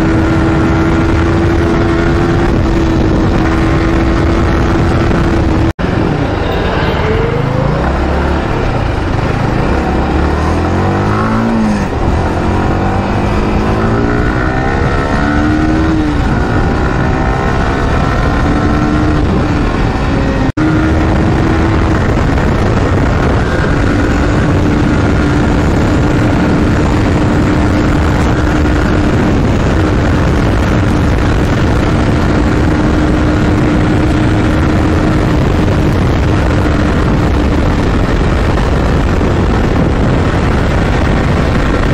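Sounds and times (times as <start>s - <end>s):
motorcycle engine cruising: 0.0s - 41.9s
wind rushing over microphone: 0.0s - 41.9s.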